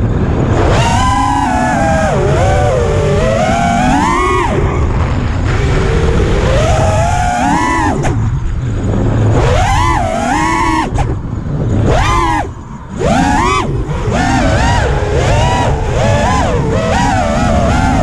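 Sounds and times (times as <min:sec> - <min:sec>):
drone motors whining: 0:00.0 - 0:18.0
low wind rumble: 0:00.0 - 0:18.0.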